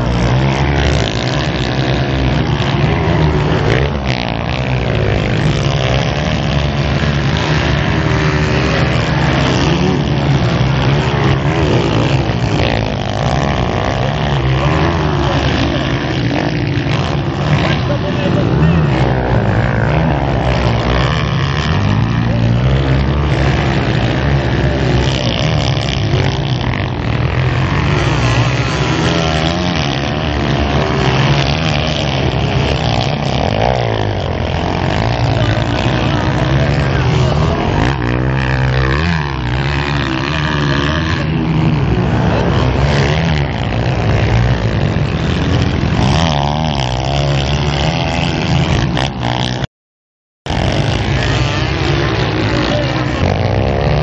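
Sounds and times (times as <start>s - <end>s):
dirt bike engines revving: 0.0s - 49.7s, 50.4s - 54.0s.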